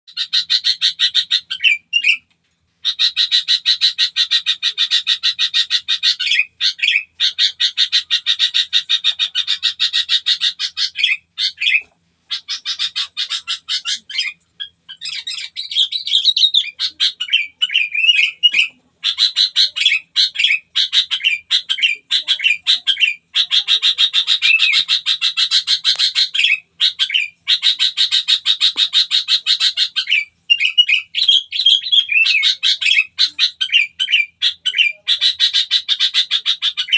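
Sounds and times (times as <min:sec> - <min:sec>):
songbird trilling: 0:02.8 - 0:36.9.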